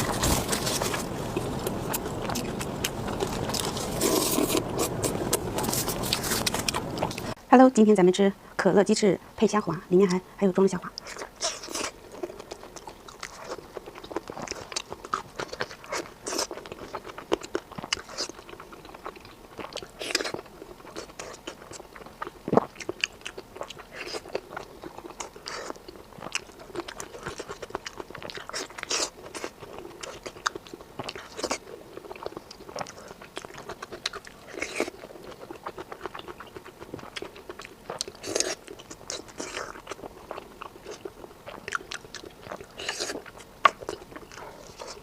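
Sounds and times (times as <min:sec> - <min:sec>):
chewing with mouth clicks: 0:00.0 - 0:07.4, 0:10.8 - 0:45.0.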